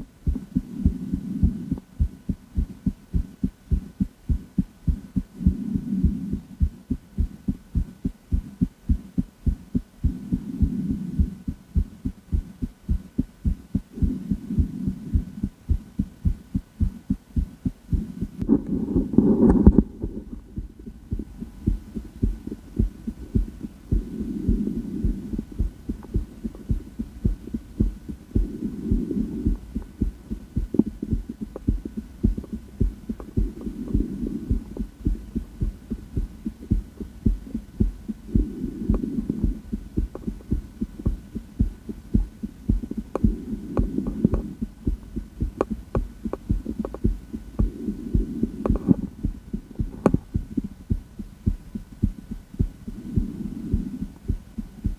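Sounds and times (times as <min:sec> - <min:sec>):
faint steady hum: 0:00.0 - 0:54.9
heartbeat through stethoscope: 0:00.0 - 0:54.9.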